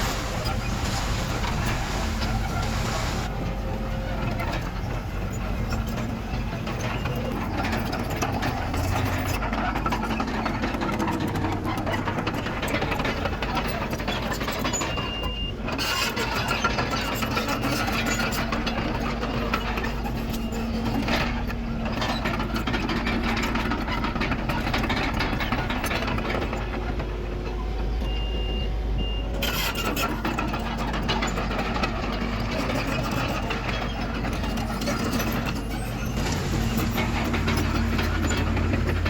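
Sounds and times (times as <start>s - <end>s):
heavy diesel machinery running: 0.0s - 39.0s.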